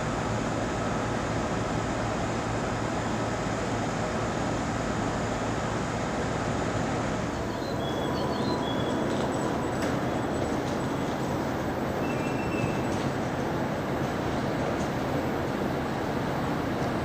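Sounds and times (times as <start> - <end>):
electric train humming: 0.2 - 17.0.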